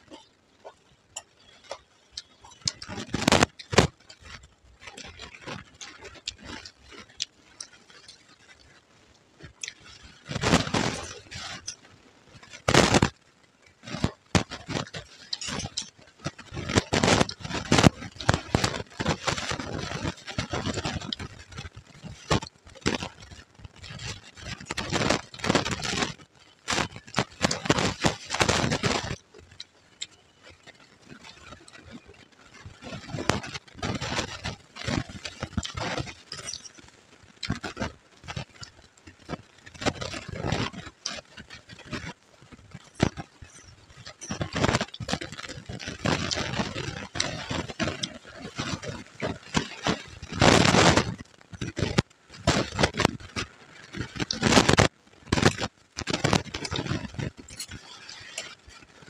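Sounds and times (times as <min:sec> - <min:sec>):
crisp chewing crunching: 0:00.0 - 0:59.0.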